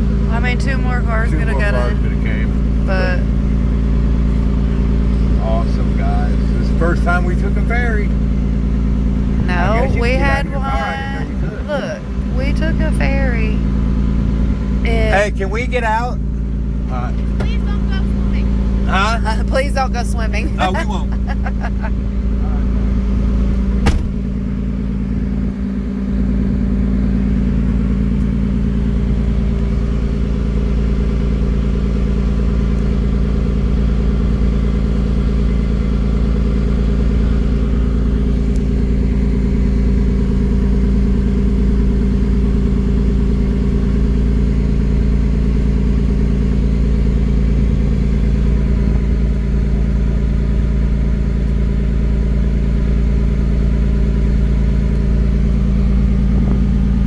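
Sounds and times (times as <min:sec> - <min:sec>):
engine running with deep rumble: 0:00.0 - 0:57.0.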